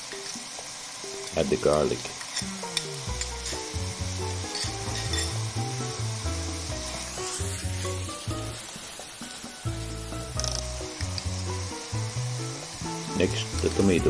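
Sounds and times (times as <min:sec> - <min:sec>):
vegetables sizzling in hot oil: 0:00.0 - 0:14.0
soft background music: 0:01.0 - 0:14.0.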